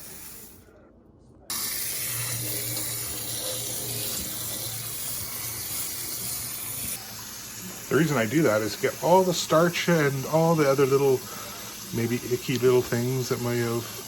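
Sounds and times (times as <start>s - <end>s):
kitchen tap turned on: 1.5s - 14.0s
water running from tap: 1.5s - 14.0s.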